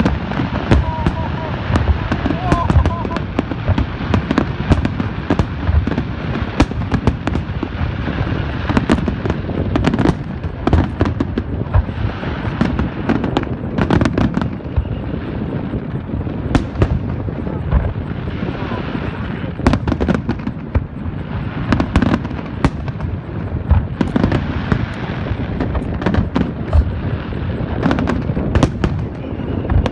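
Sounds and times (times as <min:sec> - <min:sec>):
fireworks booming: 0:00.0 - 0:29.9
fireworks sharp cracks: 0:00.0 - 0:29.9.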